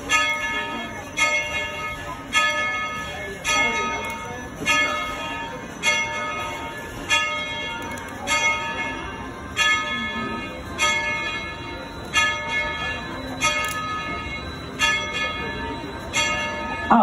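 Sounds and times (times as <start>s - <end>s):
steam locomotive bell ringing: 0.0s - 17.0s.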